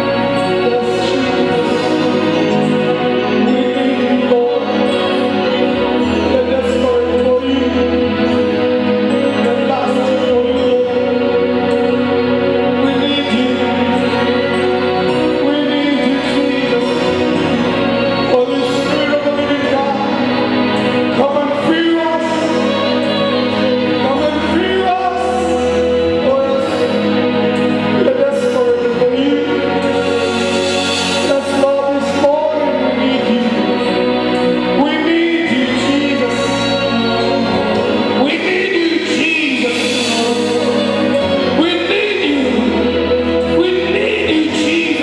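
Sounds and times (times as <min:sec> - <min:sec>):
gospel singing with instruments: 0:00.0 - 0:45.0
steady bass line: 0:00.0 - 0:45.0.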